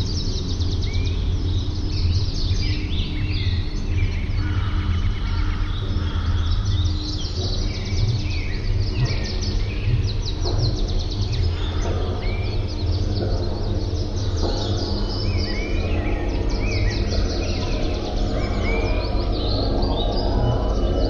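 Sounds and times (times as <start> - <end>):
birds chirping and trilling: 0.0 - 21.0
soft background music: 0.0 - 21.0
steady low hum: 0.0 - 21.0.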